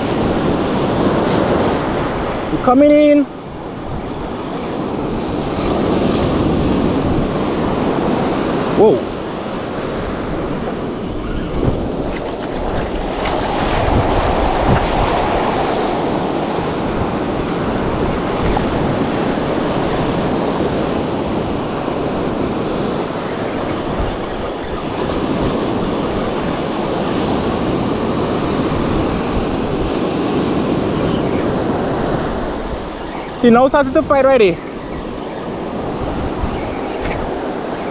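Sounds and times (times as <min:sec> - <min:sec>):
surf breaking on beach: 0:00.0 - 0:37.9
wind buffeting microphone: 0:00.0 - 0:37.9.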